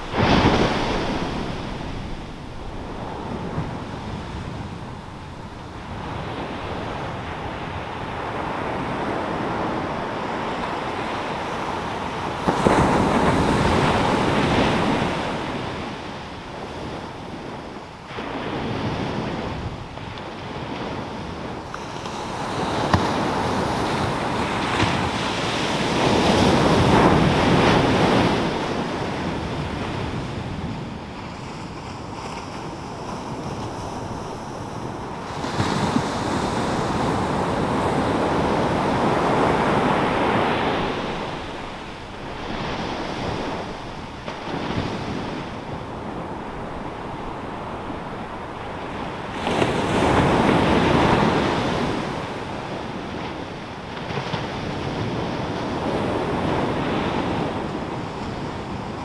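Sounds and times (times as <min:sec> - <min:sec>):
surf breaking on beach: 0:00.0 - 0:59.0.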